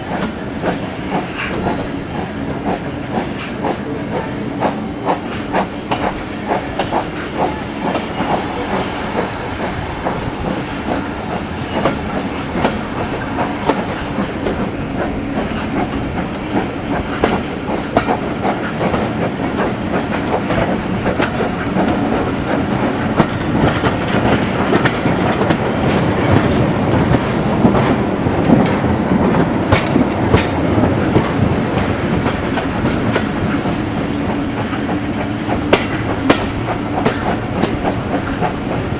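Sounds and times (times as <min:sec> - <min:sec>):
train rumble: 0:00.0 - 0:38.9
train wheels clicking over rail joints: 0:00.0 - 0:38.9.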